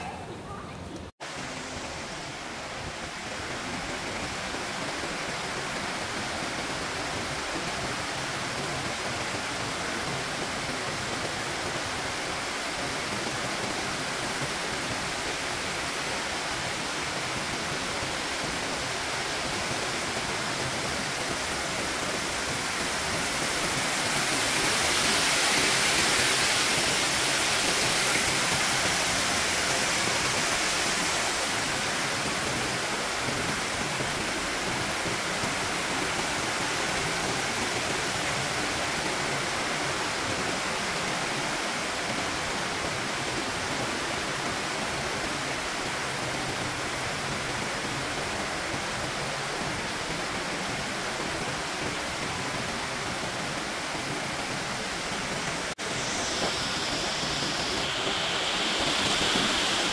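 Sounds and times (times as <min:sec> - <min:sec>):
falling water rushing: 0:01.1 - 0:59.9.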